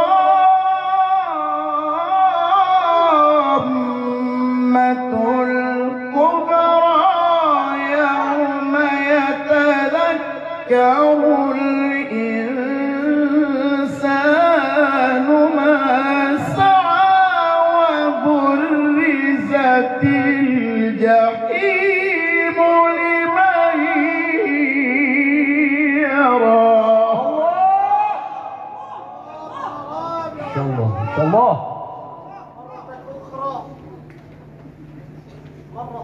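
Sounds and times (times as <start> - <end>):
man reciting melodically into a microphone: 0.0 - 33.8.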